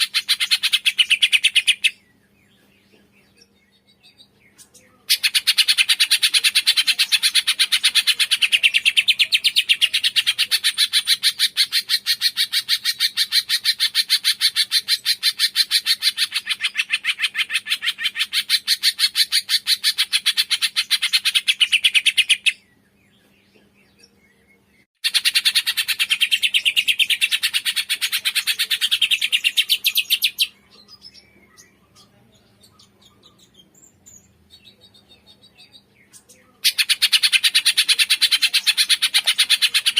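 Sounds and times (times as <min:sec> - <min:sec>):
faint bird calls: 0:00.0 - 0:39.9.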